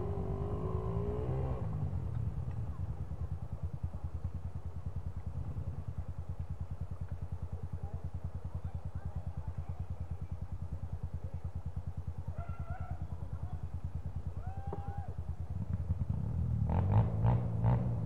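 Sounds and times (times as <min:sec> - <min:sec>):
dirt bike engine idling: 0:00.0 - 0:18.0.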